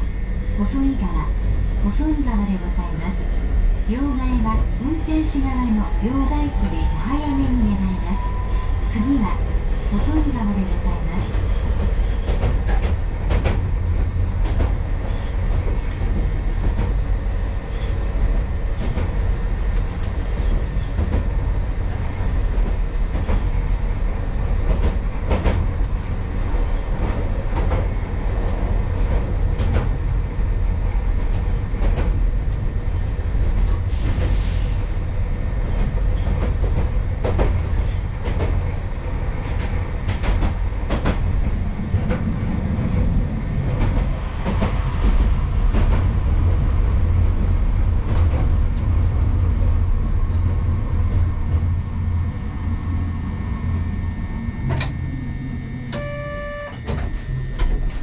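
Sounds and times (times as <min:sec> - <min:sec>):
streetcar rumble: 0:00.0 - 0:58.0.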